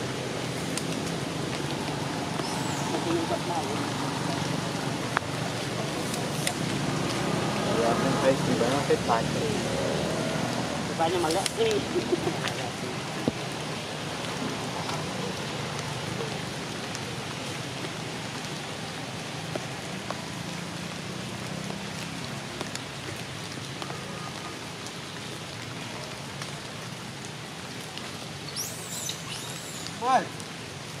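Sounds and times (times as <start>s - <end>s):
rain pattering on leaves: 0.0s - 31.0s.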